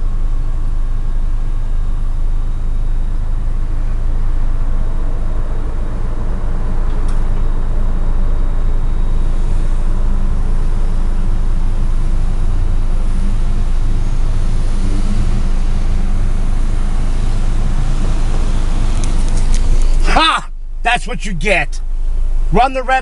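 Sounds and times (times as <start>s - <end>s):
road vehicles rumbling: 0.0s - 23.0s.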